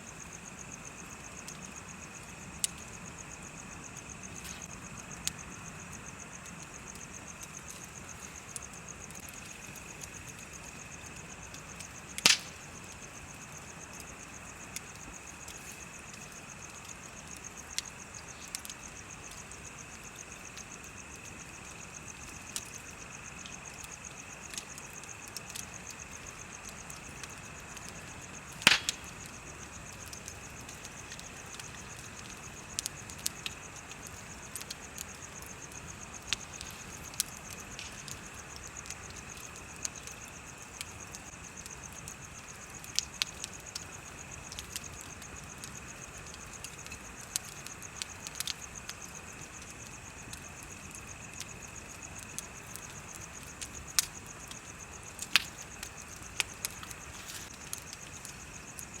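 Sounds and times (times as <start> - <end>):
bonfire crackling and popping: 0.0 - 59.0
insects chirping: 0.0 - 59.0.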